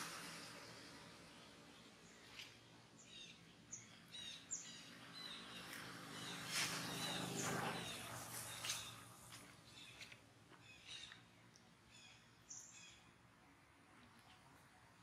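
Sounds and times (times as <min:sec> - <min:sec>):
birds chirping: 0:00.0 - 0:13.1.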